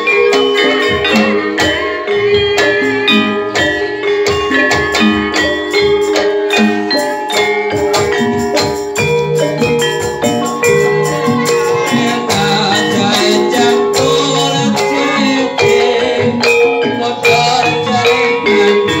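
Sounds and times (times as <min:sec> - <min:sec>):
pot gongs and metallophones ringing: 0:00.0 - 0:19.0.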